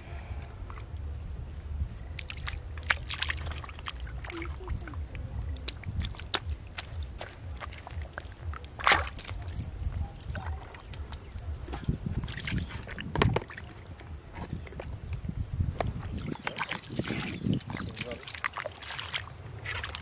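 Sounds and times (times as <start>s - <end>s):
water splashing: 2.1s - 20.0s
hands slapping wet mud: 2.2s - 14.9s, 15.9s - 20.0s.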